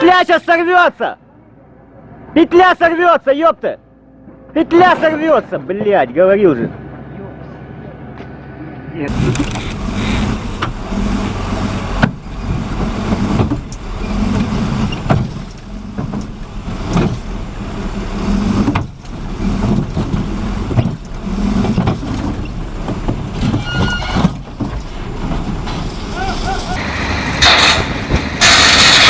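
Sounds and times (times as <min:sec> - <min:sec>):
heavy engine rumble: 0:01.2 - 0:03.0, 0:03.6 - 0:29.0.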